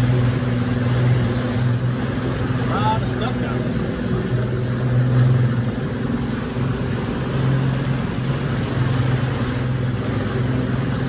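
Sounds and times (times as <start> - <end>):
boat motor humming: 0.0 - 11.0
wind and water rushing: 0.0 - 11.0.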